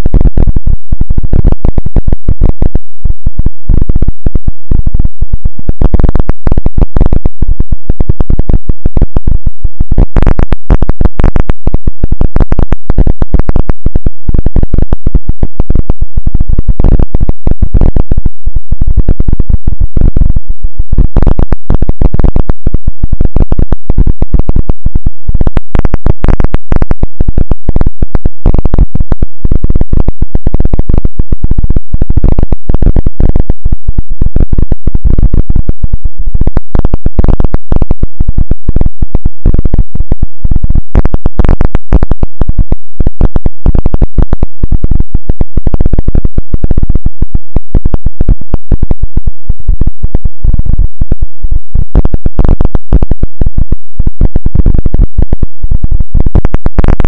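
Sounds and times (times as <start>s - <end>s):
clipped crackling electronic noise: 0.0s - 57.0s.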